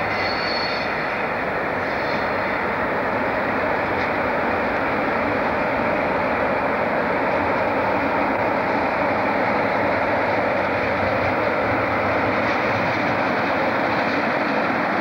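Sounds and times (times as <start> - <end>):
diesel locomotive running: 0.0 - 15.0.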